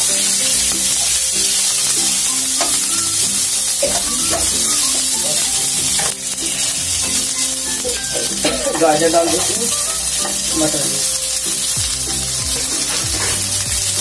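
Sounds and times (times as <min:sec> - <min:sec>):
vegetables sizzling in hot oil: 0:00.0 - 0:14.0
spatula scraping metal pan: 0:00.1 - 0:11.5, 0:12.2 - 0:13.7.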